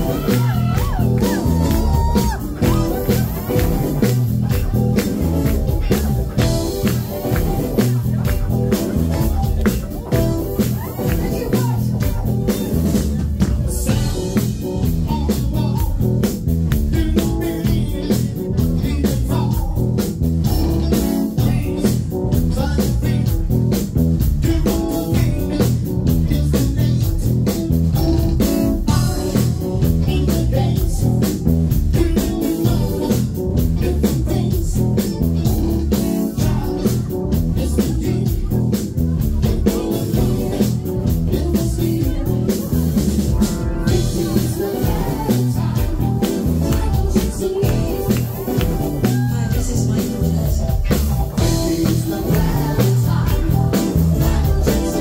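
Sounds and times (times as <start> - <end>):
bass guitar: 0.0 - 55.0
drums: 0.0 - 55.0
electric guitar: 0.0 - 55.0.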